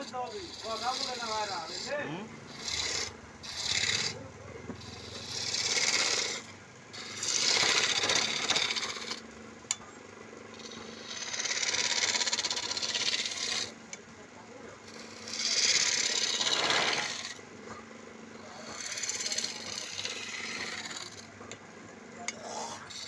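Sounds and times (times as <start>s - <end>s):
tool scraping wood on lathe: 0.0s - 9.4s, 10.5s - 21.6s, 22.2s - 23.0s.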